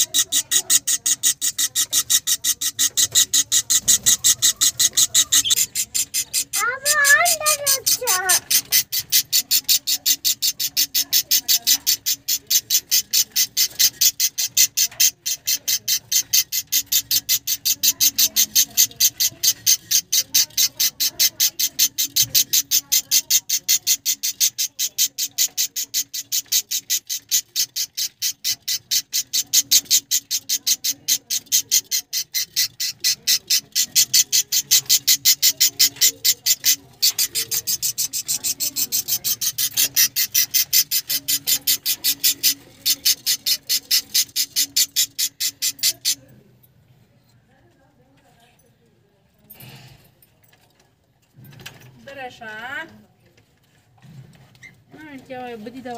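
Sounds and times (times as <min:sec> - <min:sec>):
budgerigars chirping: 0:00.0 - 0:46.2.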